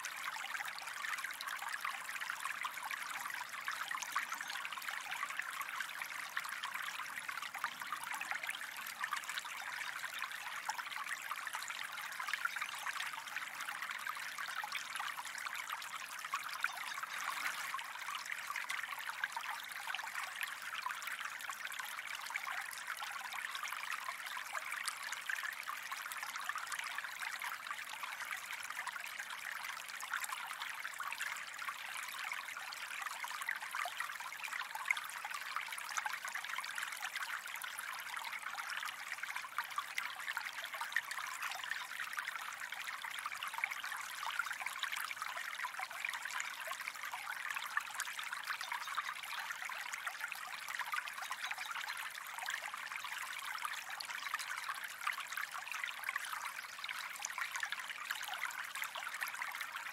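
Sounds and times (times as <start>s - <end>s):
water trickling: 0.1s - 59.9s.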